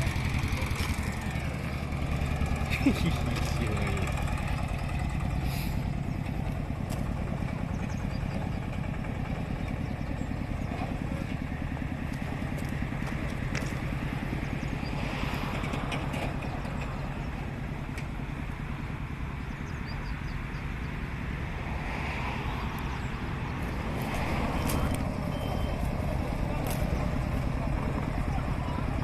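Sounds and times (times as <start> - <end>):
stationary oil engine running: 0.0 - 21.4, 22.8 - 29.0.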